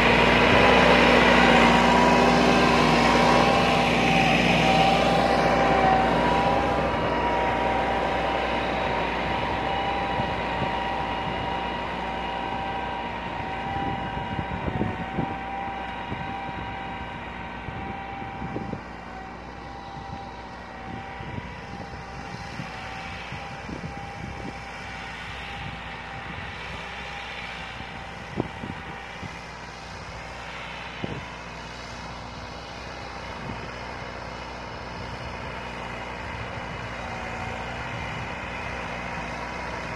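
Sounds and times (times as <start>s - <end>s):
steady high whine: 0.0s - 39.9s
tractor diesel engine under load: 0.0s - 39.9s.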